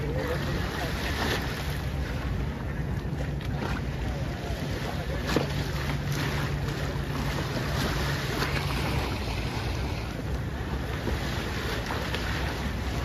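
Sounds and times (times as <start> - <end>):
low steady hum: 0.0 - 13.0
water lapping: 0.0 - 13.0.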